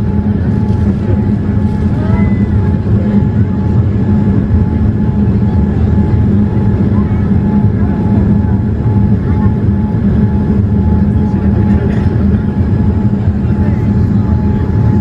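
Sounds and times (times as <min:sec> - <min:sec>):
aircraft cabin engine roar: 0:00.0 - 0:15.0.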